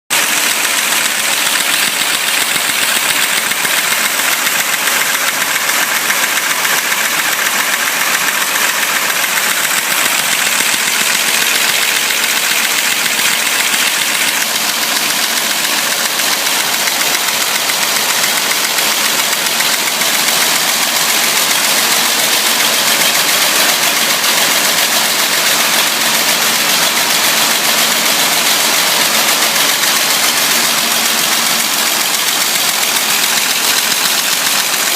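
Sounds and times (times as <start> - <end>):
welding machine running: 0.1 - 34.9.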